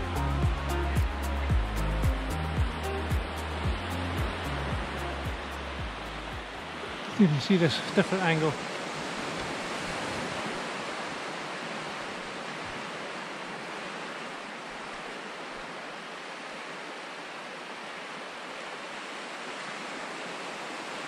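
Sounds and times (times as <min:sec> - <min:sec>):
small waves breaking on beach: 0:00.0 - 0:21.0.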